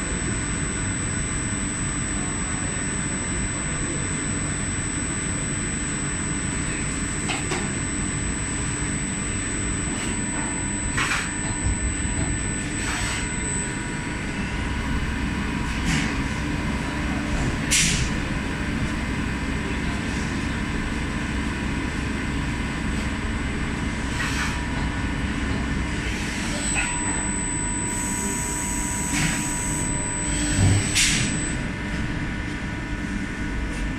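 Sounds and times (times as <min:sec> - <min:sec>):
lathe running with high whine: 0:00.0 - 0:33.6.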